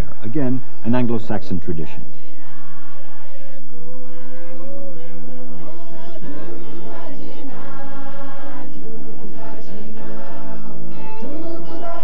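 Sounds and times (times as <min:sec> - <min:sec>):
group singing a hymn: 0:02.0 - 0:12.0.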